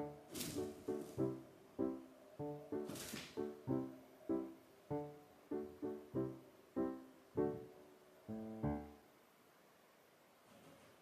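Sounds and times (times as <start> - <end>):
slow piano melody: 0.0 - 9.2.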